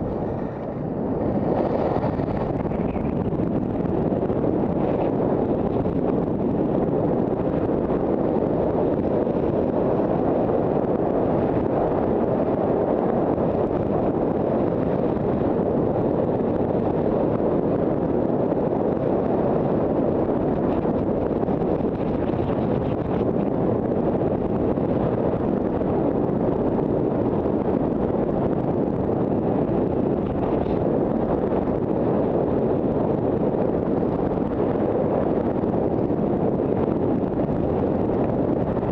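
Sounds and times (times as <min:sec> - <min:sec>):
wind rushing on microphone: 0:00.0 - 0:38.9.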